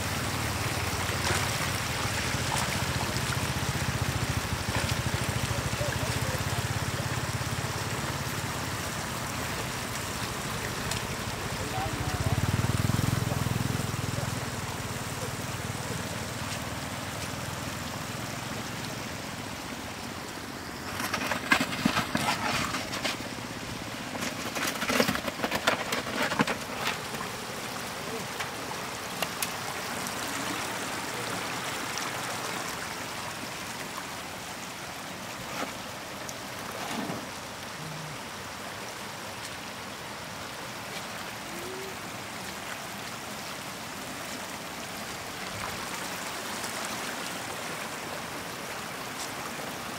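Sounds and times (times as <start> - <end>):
floodwater running: 0.0 - 49.9.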